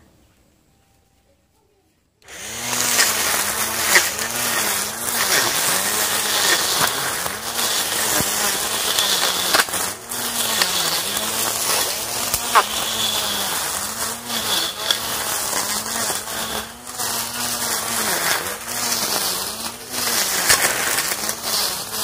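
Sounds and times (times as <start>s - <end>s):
cordless grass trimmer cutting grass: 2.2s - 22.0s.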